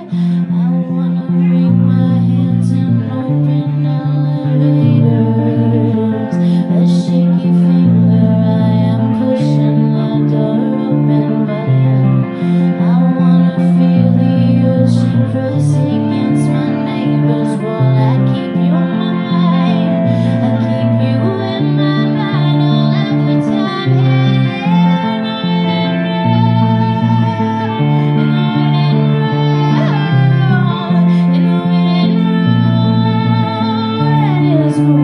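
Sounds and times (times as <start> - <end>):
electric guitar strumming chords: 0.0 - 35.0
woman singing: 0.0 - 35.0.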